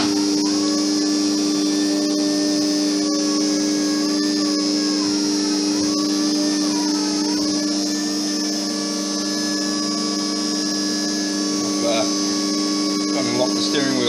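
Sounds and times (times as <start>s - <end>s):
electric pump motor whine: 0.0s - 14.0s.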